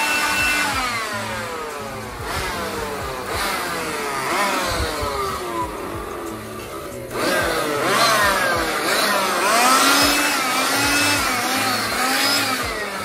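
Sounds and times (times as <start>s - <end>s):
electric blower motor whine: 0.0s - 13.0s.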